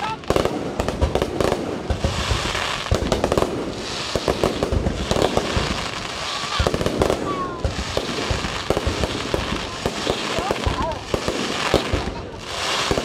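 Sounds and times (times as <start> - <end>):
fireworks bangs and cracks: 0.0 - 13.0
fireworks crackle: 0.0 - 13.0.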